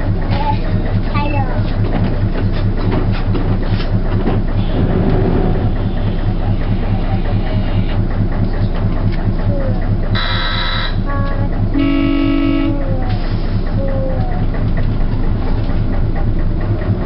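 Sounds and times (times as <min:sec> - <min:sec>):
wheel clatter over rails: 0:00.0 - 0:10.2, 0:12.9 - 0:17.0
diesel engine low throb: 0:00.0 - 0:17.0.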